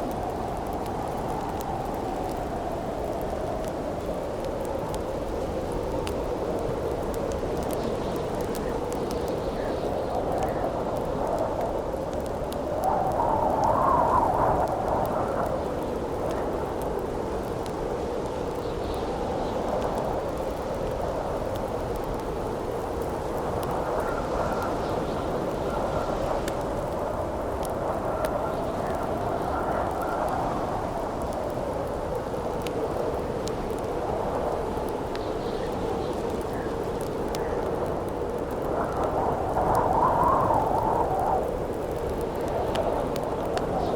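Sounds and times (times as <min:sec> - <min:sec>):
campfire crackling: 0:00.0 - 0:43.9
howling wind: 0:00.0 - 0:43.9.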